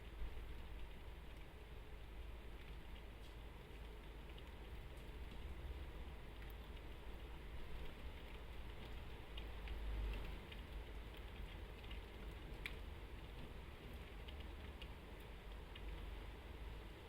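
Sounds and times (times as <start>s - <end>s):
raindrops on window glass: 0.0s - 17.0s.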